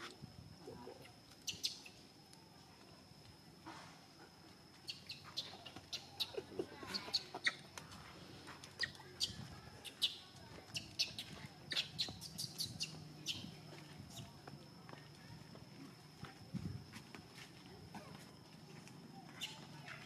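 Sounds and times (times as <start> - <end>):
faint high-pitched whine: 0.0 - 20.0.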